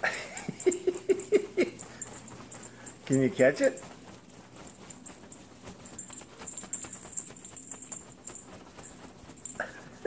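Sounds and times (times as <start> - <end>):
light taps and rustles: 0.0 - 10.0.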